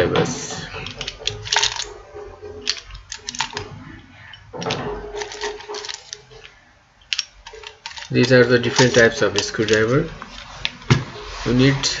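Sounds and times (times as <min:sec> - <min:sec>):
screwdrivers clicking and rattling: 0:00.7 - 0:11.0.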